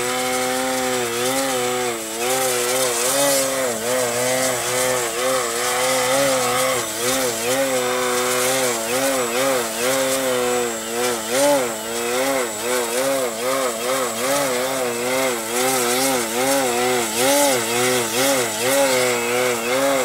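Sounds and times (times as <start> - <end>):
model plane motor and propeller: 0.0 - 20.0.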